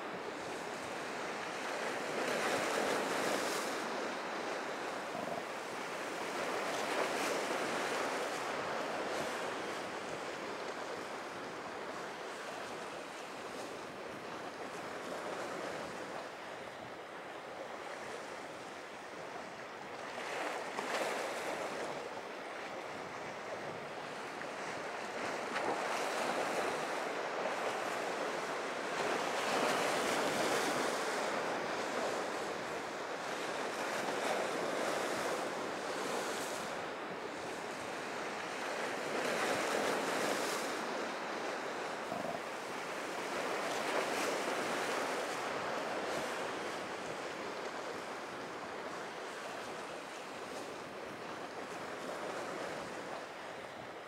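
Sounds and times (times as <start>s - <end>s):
waves washing and breaking: 0.0s - 54.0s.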